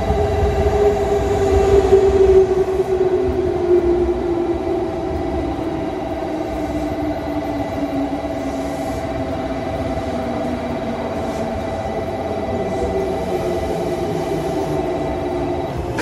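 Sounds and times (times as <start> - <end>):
electric train whine: 0.0 - 16.0.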